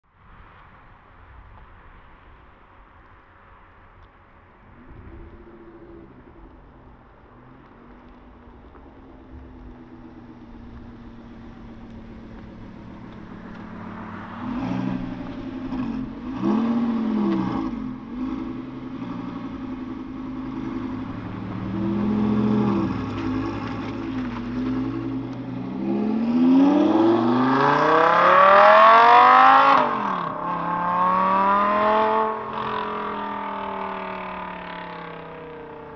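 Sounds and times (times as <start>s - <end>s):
sports car engine revving: 4.7s - 35.9s.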